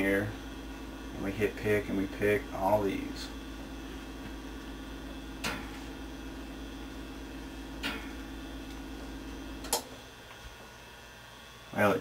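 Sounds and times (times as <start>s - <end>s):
air handler blower hum: 0.0s - 12.0s.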